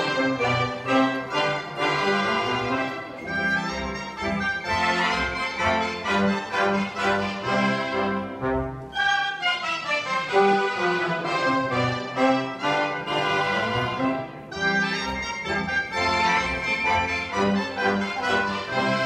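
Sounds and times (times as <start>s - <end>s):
brass band playing folk dance: 0.0s - 19.0s.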